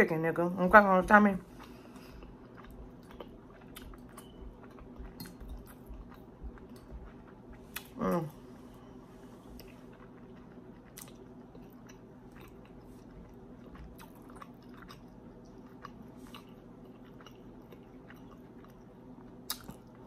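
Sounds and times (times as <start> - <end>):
steady low hum: 0.0 - 20.0
chewing and crunching: 0.7 - 8.2, 9.4 - 20.0.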